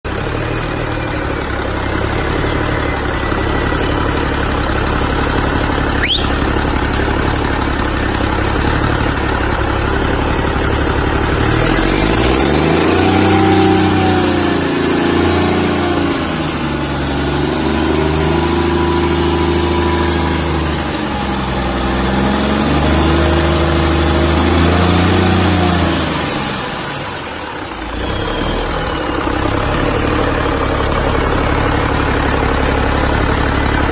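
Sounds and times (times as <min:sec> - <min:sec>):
diesel engine idling and revving: 0:00.0 - 0:33.9.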